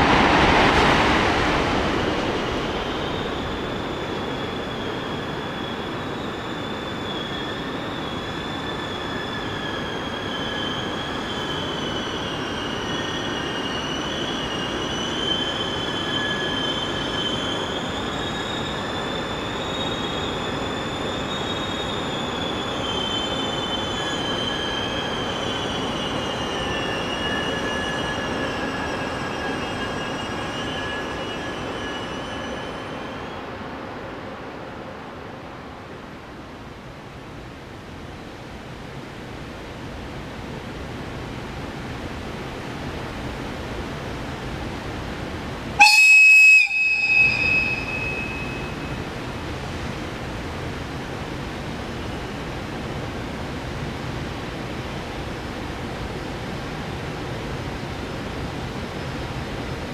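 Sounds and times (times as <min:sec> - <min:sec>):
train wheels squealing: 0:00.0 - 0:59.9.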